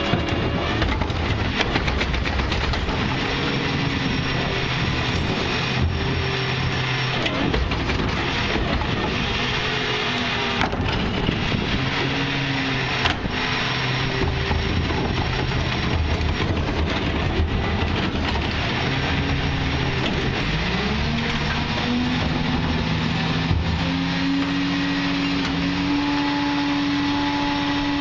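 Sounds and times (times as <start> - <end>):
diesel engine under load: 0.0 - 28.0
packer grinding and crushing recyclables: 0.0 - 28.0.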